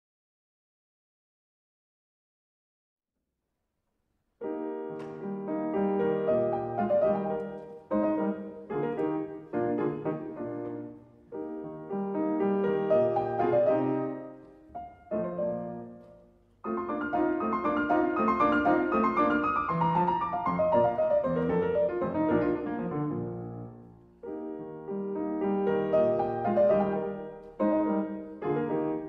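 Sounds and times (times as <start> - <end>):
piano chords: 4.4 - 29.0.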